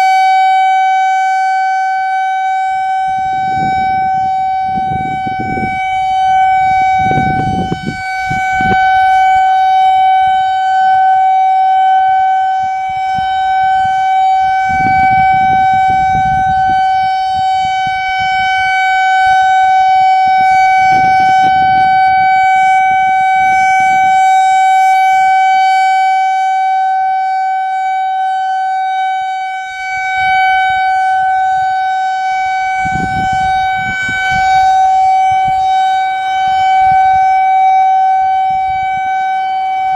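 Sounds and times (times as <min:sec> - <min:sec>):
tornado warning siren: 0:00.0 - 0:39.9.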